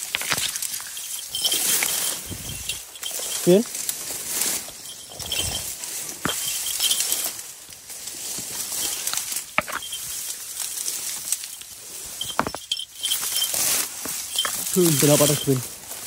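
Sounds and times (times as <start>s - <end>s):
dry grass rustling: 0.0s - 16.0s.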